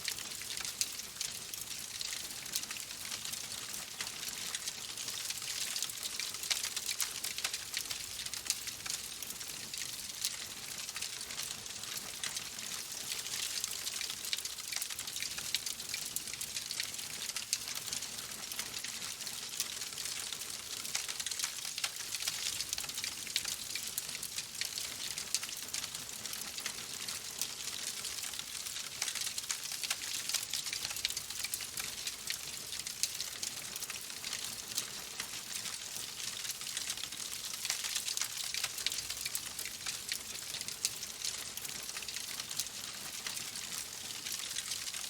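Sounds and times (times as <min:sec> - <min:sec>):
wood fire crackling: 0:00.1 - 0:09.4, 0:10.1 - 0:45.0.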